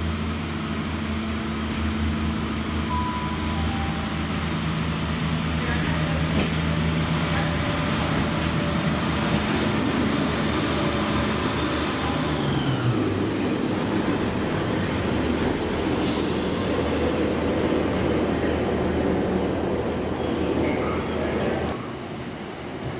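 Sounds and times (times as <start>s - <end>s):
diesel train passing: 0.0s - 22.9s.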